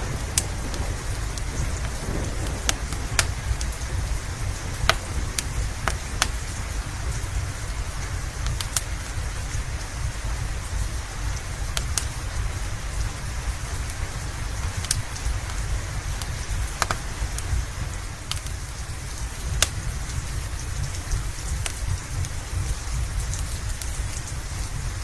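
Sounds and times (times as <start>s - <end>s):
log fire crackling and popping: 0.0s - 25.0s
low rumble: 0.0s - 25.0s
steady rain: 0.0s - 25.0s.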